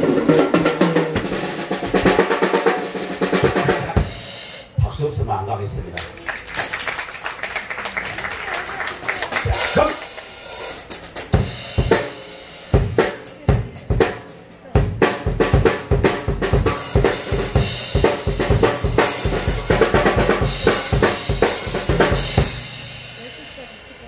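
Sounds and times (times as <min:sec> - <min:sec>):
drum kit playing: 0:00.0 - 0:05.4, 0:06.4 - 0:07.2, 0:08.0 - 0:24.0.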